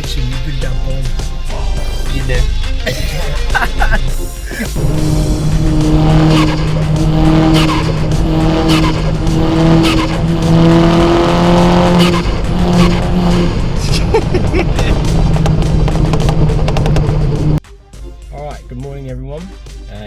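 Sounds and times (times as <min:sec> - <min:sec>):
car engine and exhaust: 0:00.0 - 0:17.6.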